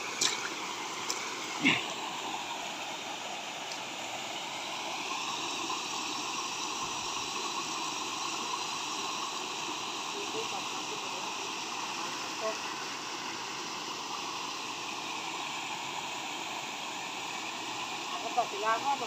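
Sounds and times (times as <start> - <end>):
waterfall pouring into pool: 0.0 - 19.0.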